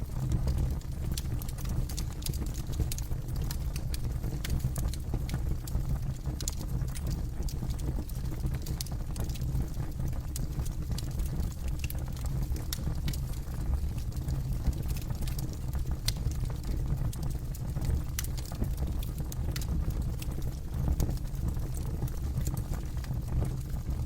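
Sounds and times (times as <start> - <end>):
low rumble of flames: 0.0 - 24.0
wood crackling and popping: 0.0 - 24.0.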